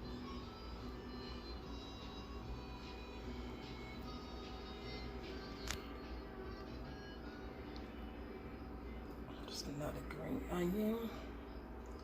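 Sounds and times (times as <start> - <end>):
quiet music with sustained notes: 0.0 - 12.0.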